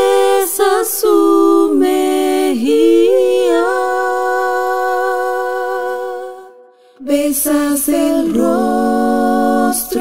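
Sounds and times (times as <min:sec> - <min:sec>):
women singing a cappella chord: 0:00.0 - 0:10.0.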